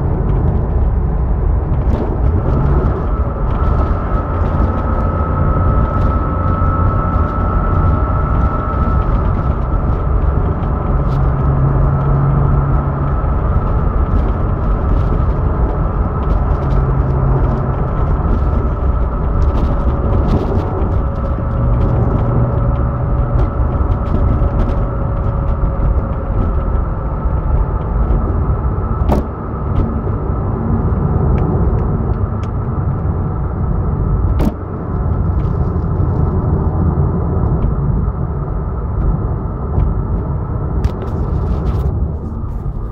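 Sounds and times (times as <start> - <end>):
vehicle engine rumbling: 0.0 - 42.9.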